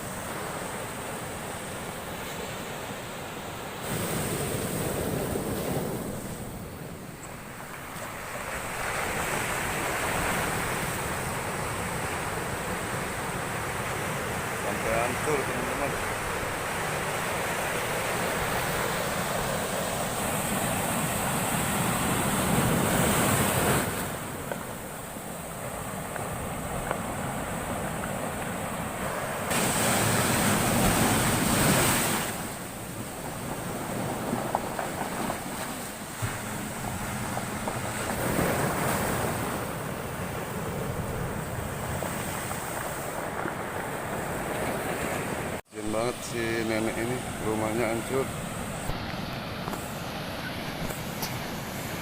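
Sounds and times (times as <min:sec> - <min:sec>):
storm surf breaking: 0:00.0 - 0:52.0.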